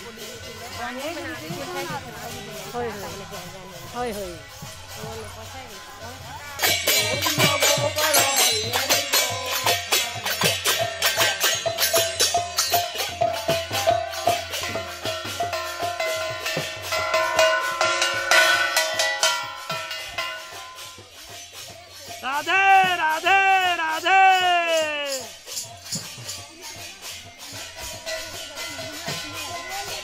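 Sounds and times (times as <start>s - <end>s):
hand cymbals clashing: 0.0s - 30.0s.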